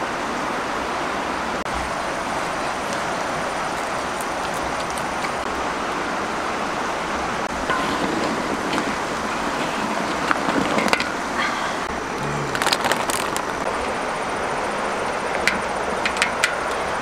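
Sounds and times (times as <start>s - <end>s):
water boiling hard: 1.7s - 17.0s.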